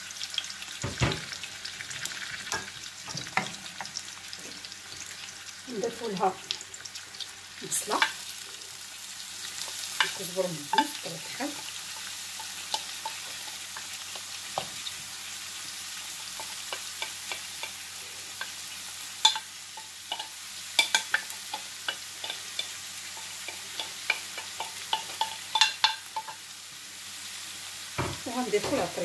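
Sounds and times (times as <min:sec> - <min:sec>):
meat sizzling in a pan: 0:00.0 - 0:29.0.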